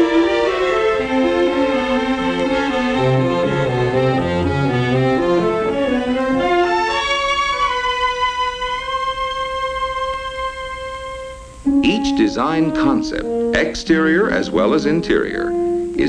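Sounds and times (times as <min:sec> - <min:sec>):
orchestral string music: 0:00.0 - 0:16.0.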